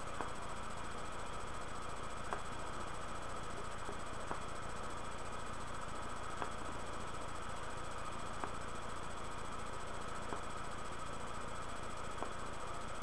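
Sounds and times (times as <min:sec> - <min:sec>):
room noise hiss: 0:00.0 - 0:13.0.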